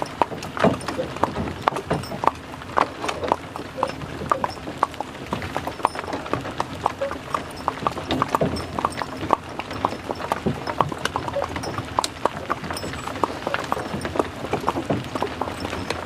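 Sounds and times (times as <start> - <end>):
horse hooves clip-clopping on asphalt: 0.0 - 16.0.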